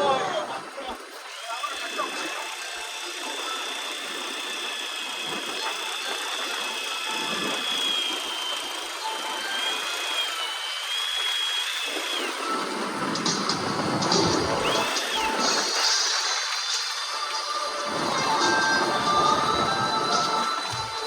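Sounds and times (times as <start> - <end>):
fishing reel motor whine: 0.0 - 21.0.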